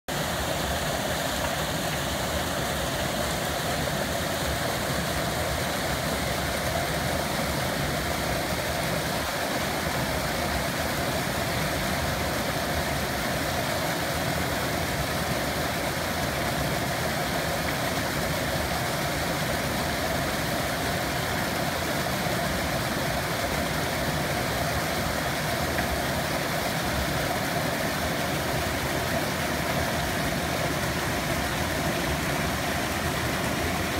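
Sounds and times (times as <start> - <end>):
water rushing over rocks: 0.1 - 33.9.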